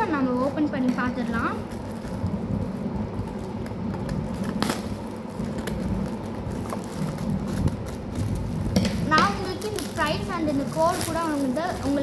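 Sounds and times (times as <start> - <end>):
low background rumble: 0.0 - 12.0
plastic crinkling: 0.0 - 12.0.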